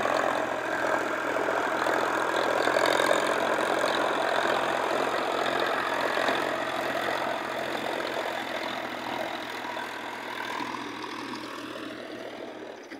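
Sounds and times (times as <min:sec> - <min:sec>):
rotavator churning soil: 0:00.0 - 0:12.9
tractor diesel engine under load: 0:00.0 - 0:12.9.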